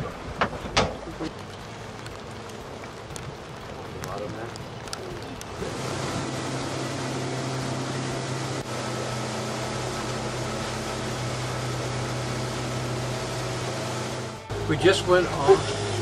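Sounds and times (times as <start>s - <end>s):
boat engine droning: 0.0s - 16.0s
water rushing: 0.0s - 16.0s
wind: 0.0s - 16.0s.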